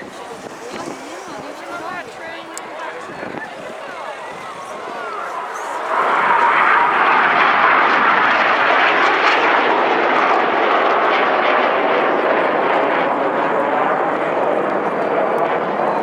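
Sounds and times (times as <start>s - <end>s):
aircraft engine noise: 0.0s - 16.0s.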